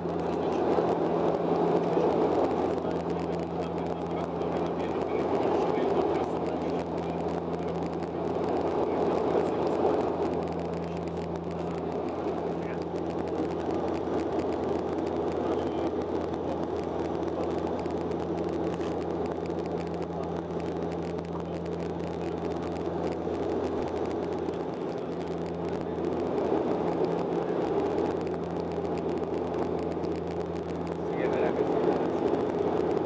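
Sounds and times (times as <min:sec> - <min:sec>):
propeller drone: 0:00.0 - 0:33.0.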